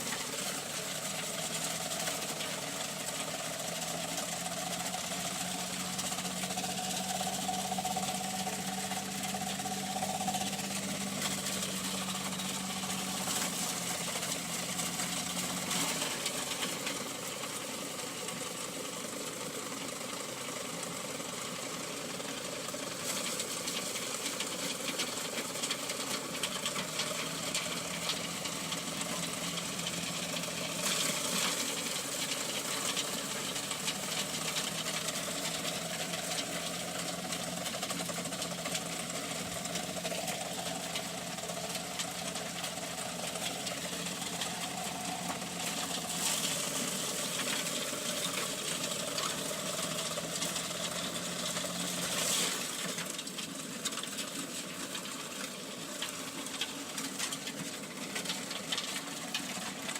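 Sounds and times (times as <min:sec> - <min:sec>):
motor hum with rapid ticking: 0:00.0 - 0:59.9.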